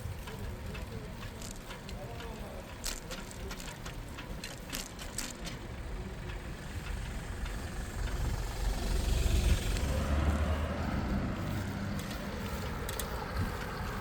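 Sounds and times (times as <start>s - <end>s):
sharp ticks and clicks: 0.0s - 10.2s, 11.6s - 14.0s
vehicle engine rumble: 0.0s - 14.0s.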